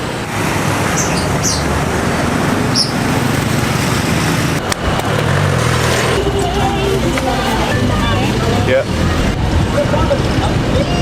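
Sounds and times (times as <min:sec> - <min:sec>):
passing vehicles engine rumble: 0:00.0 - 0:11.0.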